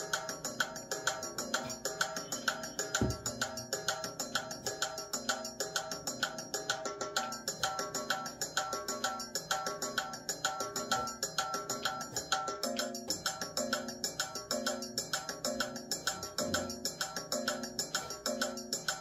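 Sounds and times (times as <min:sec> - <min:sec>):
backing music with woody clicks: 0:00.0 - 0:19.0.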